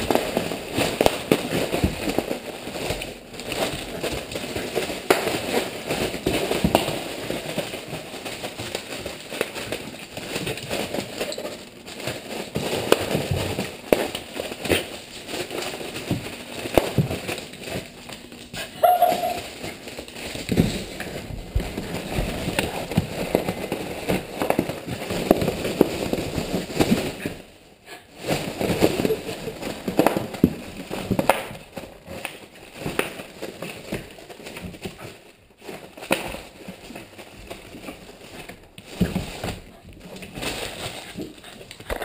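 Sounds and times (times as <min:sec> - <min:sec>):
bubble wrap crinkling and snapping: 0:00.0 - 0:42.0.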